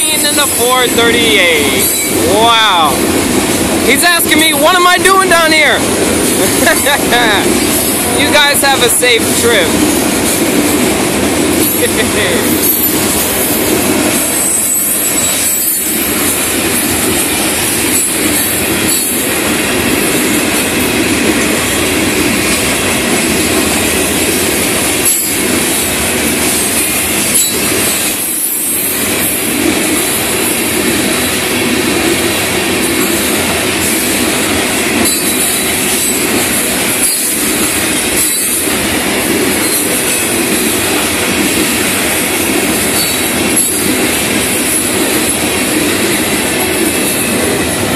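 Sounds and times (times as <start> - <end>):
freight train cars rolling past: 0.0 - 47.9.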